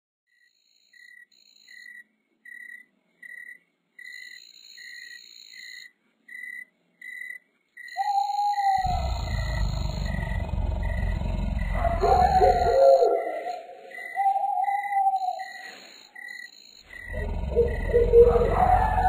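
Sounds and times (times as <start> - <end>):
crickets chirping: 0.7 - 19.0.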